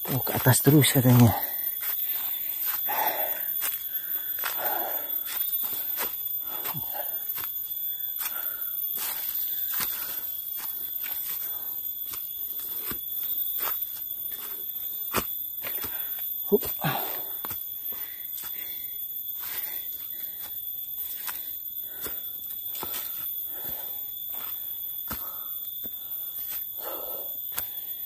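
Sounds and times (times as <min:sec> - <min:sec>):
shrill insect drone: 0:00.0 - 0:28.0.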